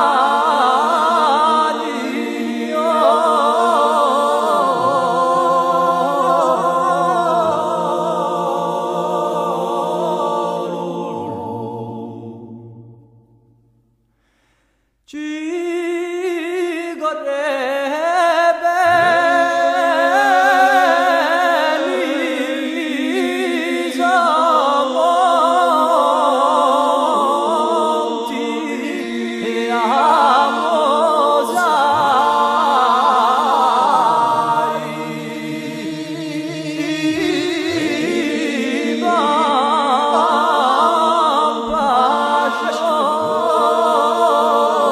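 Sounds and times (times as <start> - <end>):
voices singing in harmony: 0.0 - 13.7, 15.1 - 44.9.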